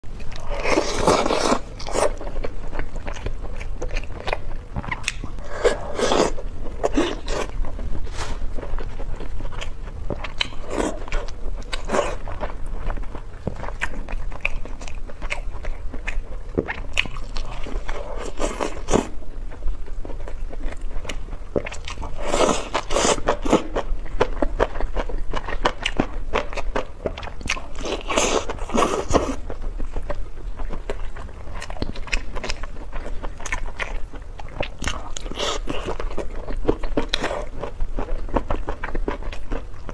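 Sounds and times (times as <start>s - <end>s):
wet biting and chewing: 0.2s - 7.8s, 8.6s - 39.9s.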